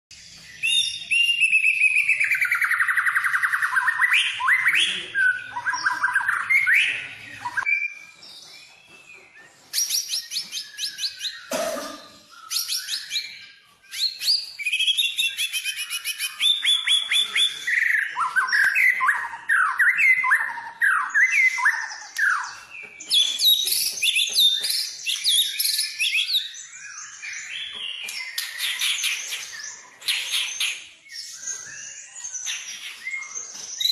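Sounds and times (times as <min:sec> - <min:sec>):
songbird singing varied song: 0:00.1 - 0:33.9.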